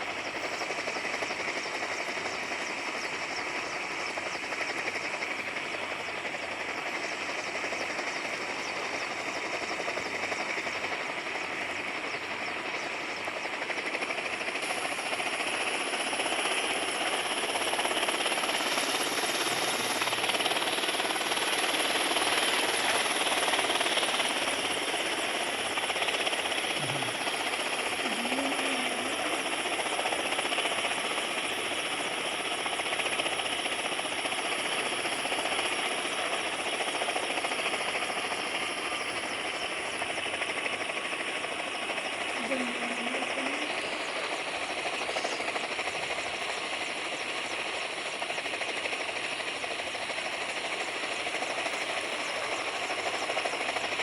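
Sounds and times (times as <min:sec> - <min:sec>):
helicopter flying: 0:00.0 - 0:54.0.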